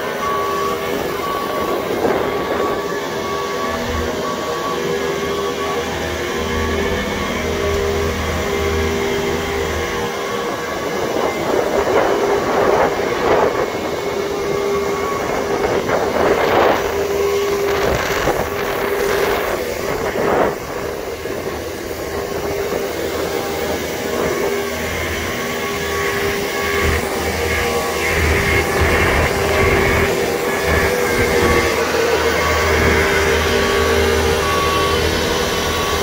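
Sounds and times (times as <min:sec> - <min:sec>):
machine drone with whine: 0:00.0 - 0:36.0.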